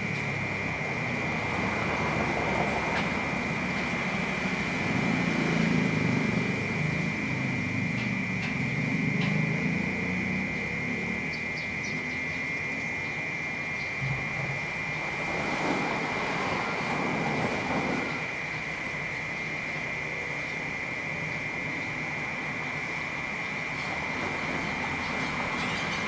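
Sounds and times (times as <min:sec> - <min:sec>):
cicadas droning: 0:00.0 - 0:26.0
low rumble of city traffic: 0:00.0 - 0:26.0.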